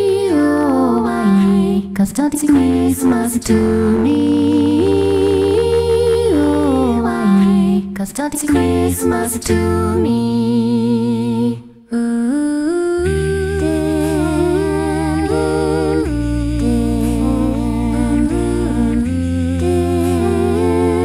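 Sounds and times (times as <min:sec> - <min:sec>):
low vocal bass line: 0:00.0 - 0:11.6, 0:13.0 - 0:21.0
synthesized voices humming chords: 0:00.0 - 0:12.0, 0:12.6 - 0:21.0.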